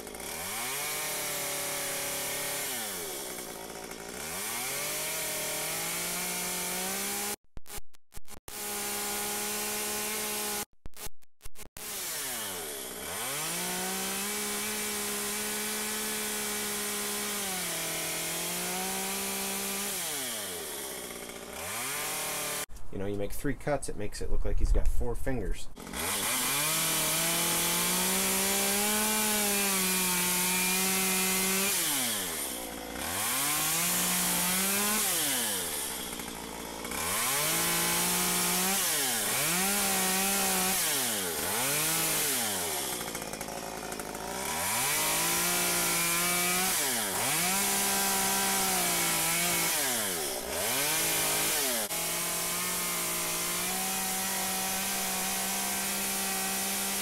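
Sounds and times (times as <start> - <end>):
chainsaw cutting wood: 0.0 - 11.1, 11.8 - 22.7, 25.8 - 57.0.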